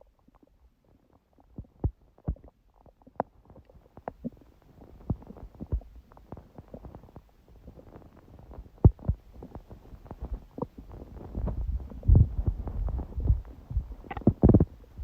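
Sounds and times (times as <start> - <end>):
stomach growling gurgles: 0.0 - 15.0.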